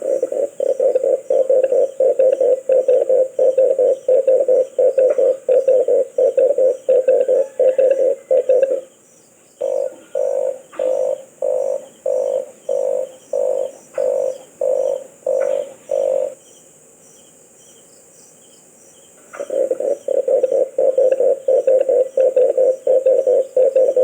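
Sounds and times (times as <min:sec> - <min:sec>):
dove cooing: 0:00.0 - 0:09.0, 0:09.6 - 0:16.4, 0:19.3 - 0:24.0
faint high hiss: 0:00.0 - 0:24.0.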